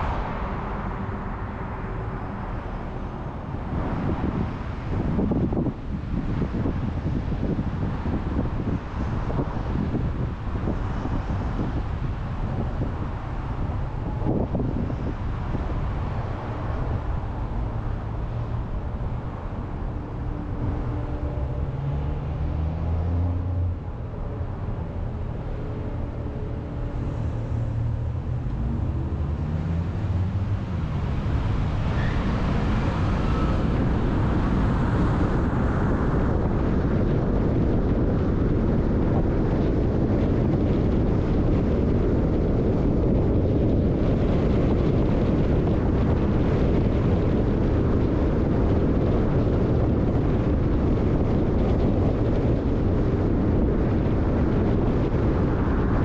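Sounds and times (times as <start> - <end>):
car engine hum: 0.0 - 56.0
tyre and wind noise: 0.0 - 56.0.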